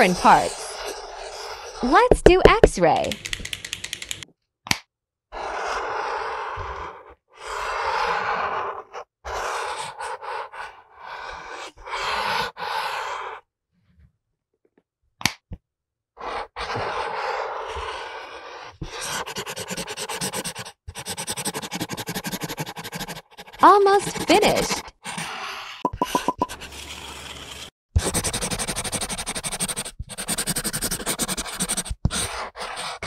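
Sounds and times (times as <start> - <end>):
marker scratching on paper: 0.0 - 4.2, 5.4 - 13.4, 16.2 - 33.0.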